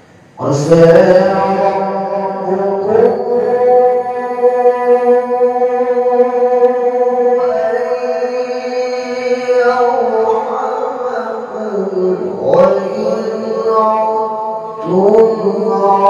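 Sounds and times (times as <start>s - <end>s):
man reciting melodically into microphone: 0.0s - 16.0s.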